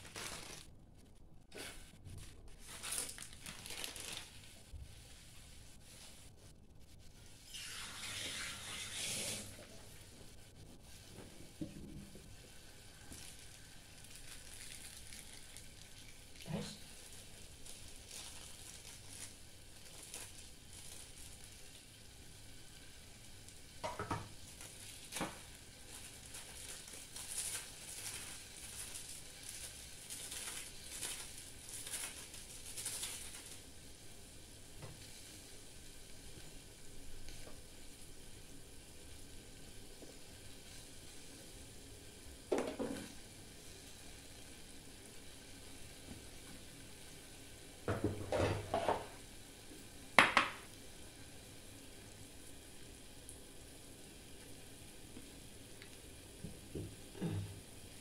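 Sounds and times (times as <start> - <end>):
noodles sizzling in a pot: 0.0 - 58.0.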